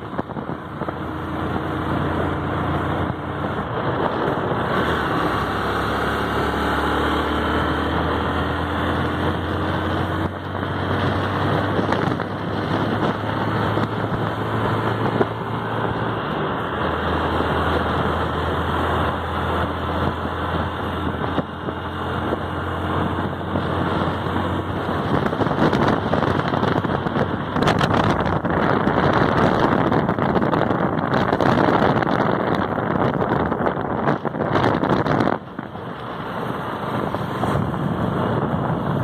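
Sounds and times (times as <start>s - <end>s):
road and wind noise: 0.0s - 39.0s
vehicle engine drone: 0.0s - 39.0s.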